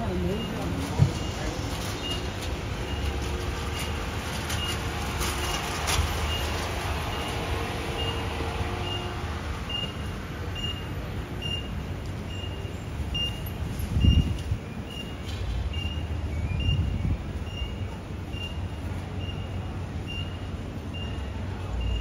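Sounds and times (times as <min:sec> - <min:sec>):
street background noise: 0:00.0 - 0:22.0.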